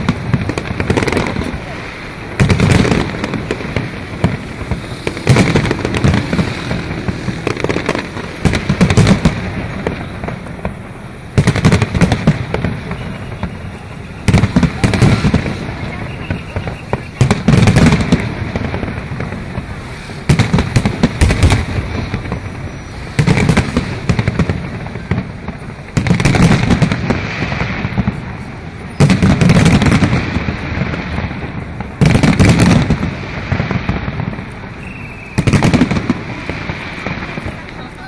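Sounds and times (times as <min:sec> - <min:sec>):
firework crackle: 0:00.0 - 0:38.0
firework shells booming: 0:00.0 - 0:38.0.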